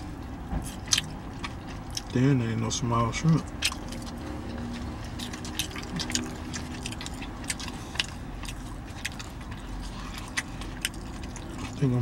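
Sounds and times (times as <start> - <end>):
low steady rumble: 0.0 - 12.0
mouth chewing: 0.1 - 2.2, 3.1 - 12.0.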